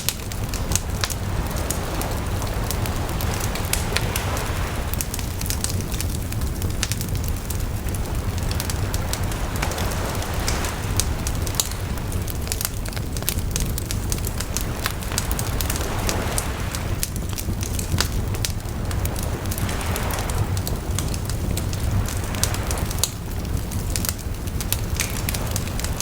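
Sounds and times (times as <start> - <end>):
sea waves on shore: 0.0 - 26.0
wood fire crackling and popping: 0.0 - 26.0.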